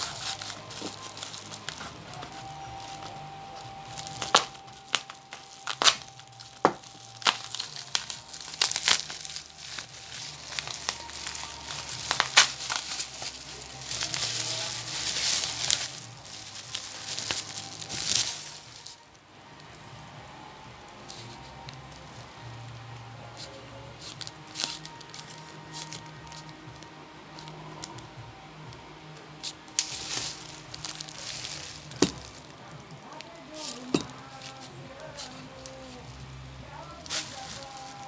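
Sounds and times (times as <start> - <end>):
bubble wrap crinkling: 0.0 - 38.0.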